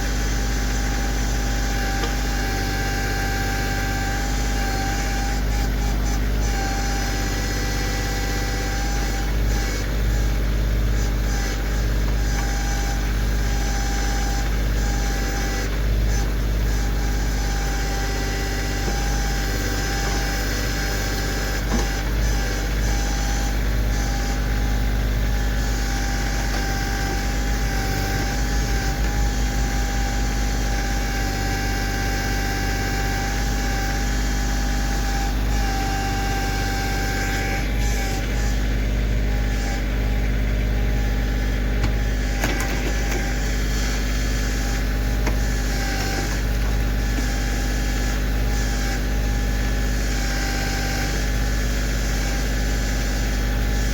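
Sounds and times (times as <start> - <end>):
tractor diesel engine running: 0.0 - 53.9
steady whine: 3.8 - 31.8, 32.7 - 50.1.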